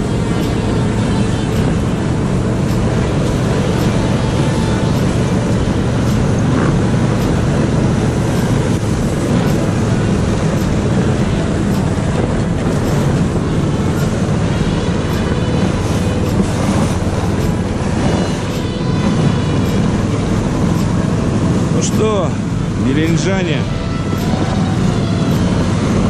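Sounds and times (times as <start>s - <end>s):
snow tow engine running: 0.0s - 26.0s.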